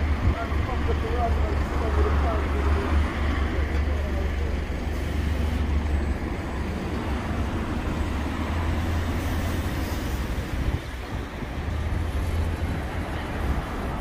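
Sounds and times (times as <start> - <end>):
bus engines running: 0.0 - 14.0
road traffic: 0.0 - 14.0.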